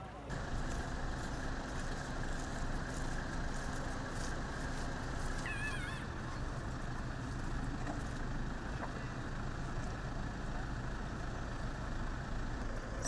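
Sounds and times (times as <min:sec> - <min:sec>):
engine humming: 0:00.0 - 0:13.0
outdoor noise: 0:00.0 - 0:13.0.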